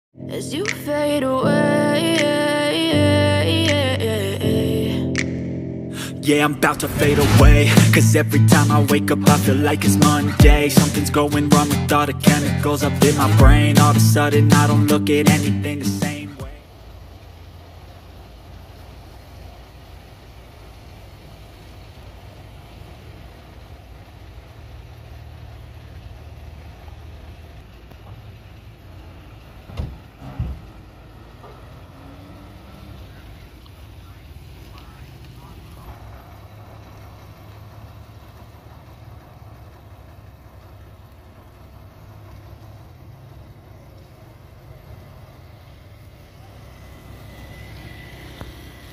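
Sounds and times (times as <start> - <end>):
diesel engine running: 6.0 - 48.9.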